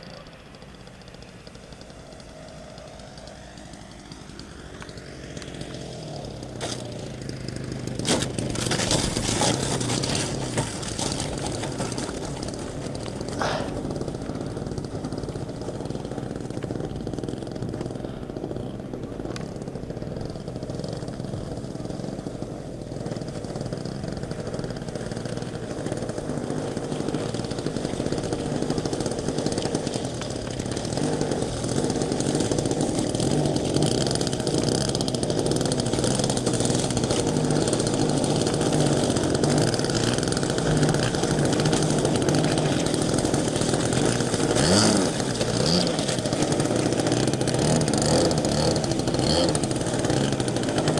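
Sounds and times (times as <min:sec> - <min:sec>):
model airplane motor running: 0:00.0 - 0:50.9.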